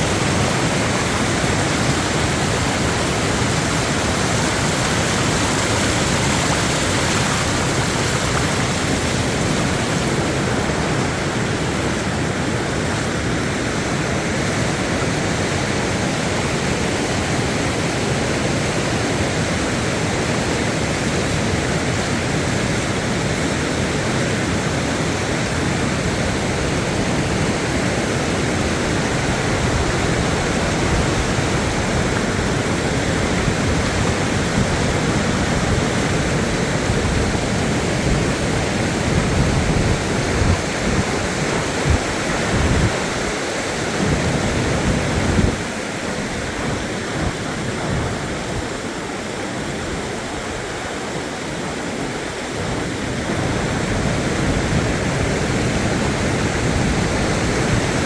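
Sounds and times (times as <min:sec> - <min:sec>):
fast-moving water rushing: 0:00.0 - 0:58.0.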